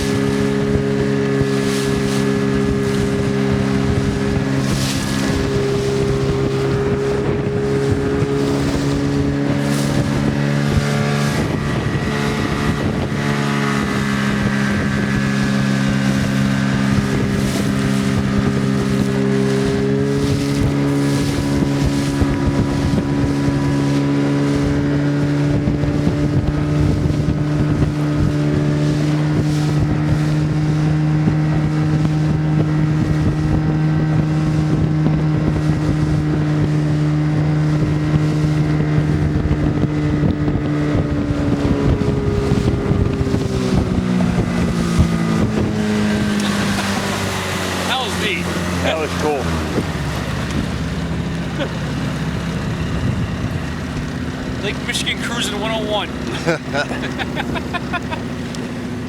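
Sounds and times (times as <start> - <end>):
motorboat engine running: 0.0 - 59.0
water rushing past hull: 0.0 - 59.0
wind buffeting microphone: 0.0 - 59.0.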